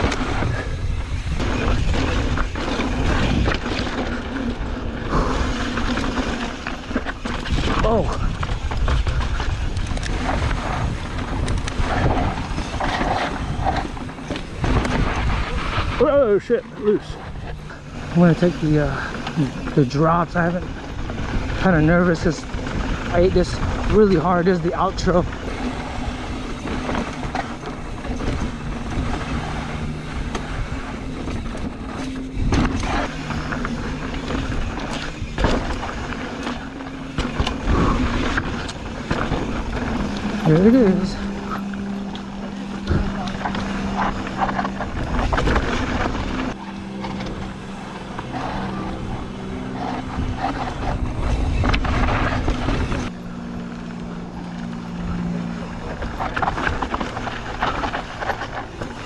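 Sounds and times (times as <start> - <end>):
bike rattles and clicks: 0.0 - 59.0
wind rumbling on microphone: 0.0 - 59.0
tyres crunching over dirt and rocks: 5.4 - 55.0
steady buzz: 11.7 - 59.0.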